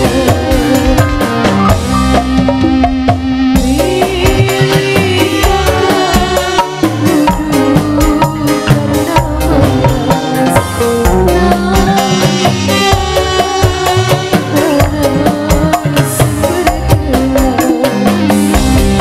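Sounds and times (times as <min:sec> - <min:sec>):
drums keeping steady beat: 0:00.0 - 0:19.0
sustained melody line: 0:00.0 - 0:19.0.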